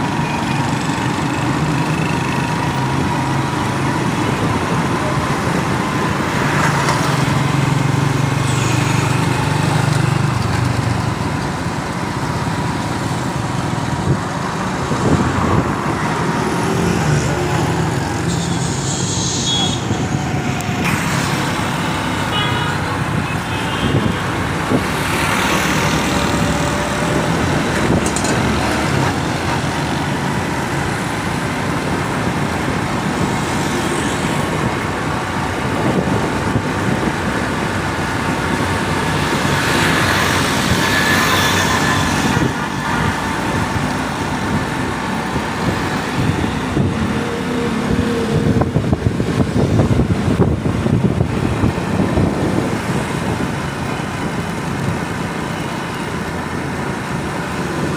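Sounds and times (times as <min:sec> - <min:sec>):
road traffic din: 0:00.0 - 0:57.9
vehicles passing close by: 0:00.0 - 0:57.9.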